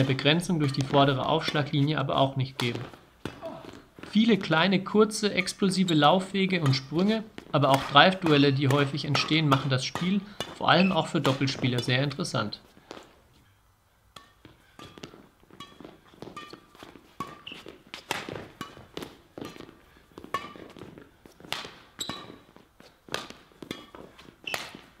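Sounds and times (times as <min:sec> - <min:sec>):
rackets hitting shuttlecock: 0:00.0 - 0:13.1, 0:14.1 - 0:25.0
footsteps on court floor: 0:00.0 - 0:13.5, 0:14.4 - 0:25.0
shoes squeaking on court: 0:00.0 - 0:25.0.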